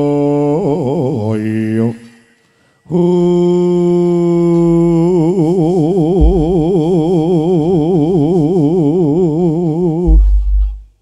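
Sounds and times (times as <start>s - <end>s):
man singing long chant note: 0.0s - 10.8s.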